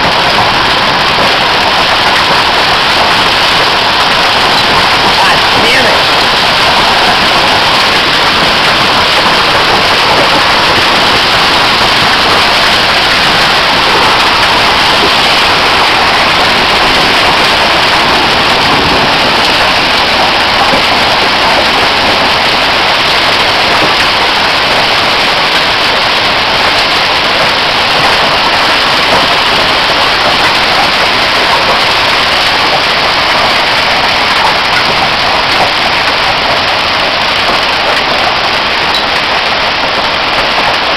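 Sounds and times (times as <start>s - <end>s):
hail and heavy rain pelting: 0.0s - 40.9s.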